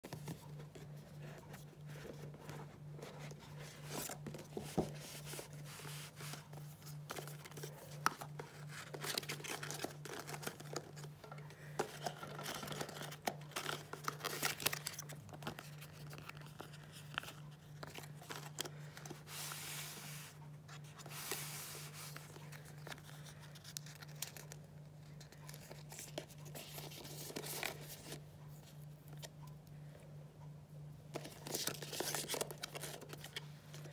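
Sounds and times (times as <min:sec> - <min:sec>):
paper rustling and crinkling: 0:00.0 - 0:28.2, 0:31.1 - 0:33.9.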